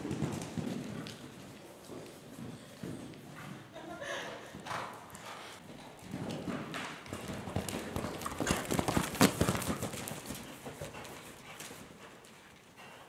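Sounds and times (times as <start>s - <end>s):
horse hooves on sand: 0.0s - 13.0s.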